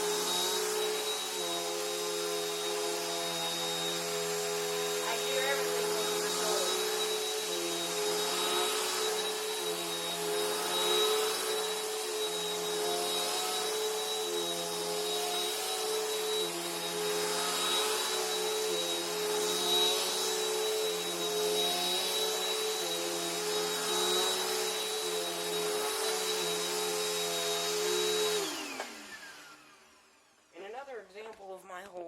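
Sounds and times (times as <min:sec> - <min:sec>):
vacuum cleaner running: 0:00.0 - 0:30.8.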